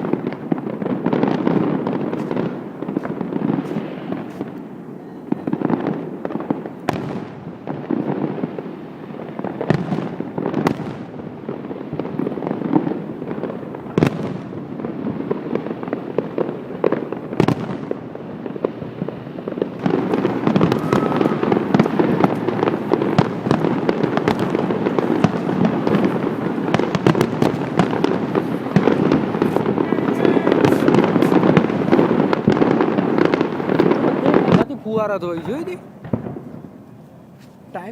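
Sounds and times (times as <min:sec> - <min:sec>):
fireworks crackling and banging: 0:00.0 - 0:37.9.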